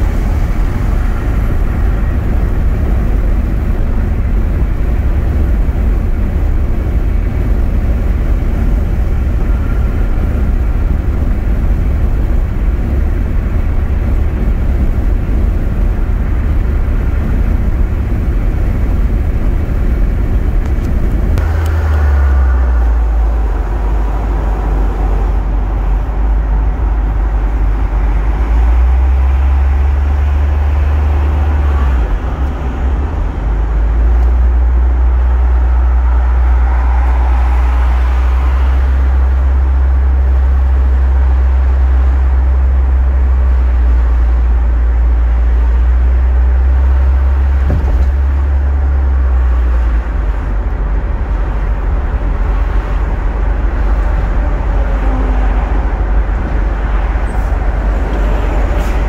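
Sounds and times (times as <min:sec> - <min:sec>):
car engine drone in cabin: 0:00.0 - 0:59.0
tyre and wind noise: 0:00.0 - 0:59.0.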